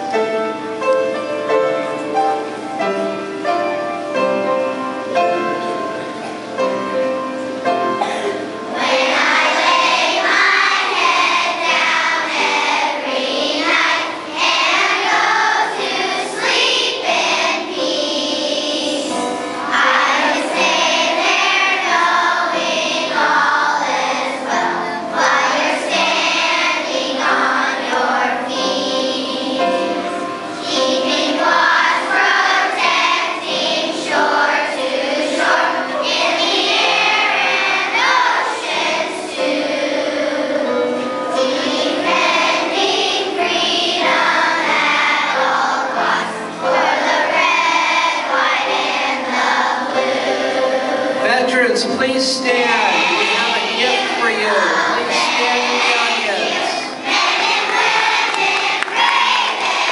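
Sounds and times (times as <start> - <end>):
children's choir singing: 0.0 - 59.9
piano accompaniment: 0.0 - 59.9.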